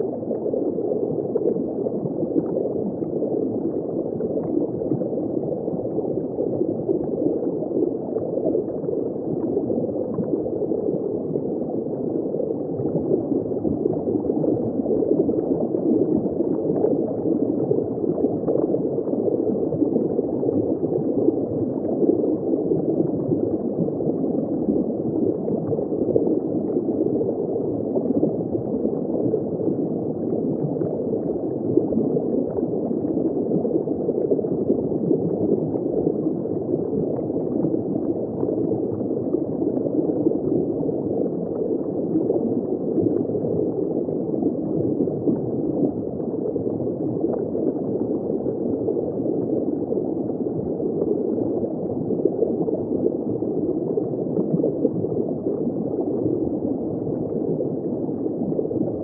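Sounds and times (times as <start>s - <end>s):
underwater bubbling and gurgling: 0.0s - 59.0s.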